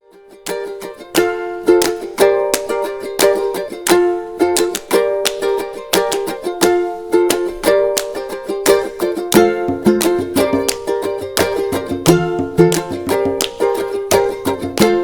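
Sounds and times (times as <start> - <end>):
plucked string instrument tune: 0.0 - 15.0.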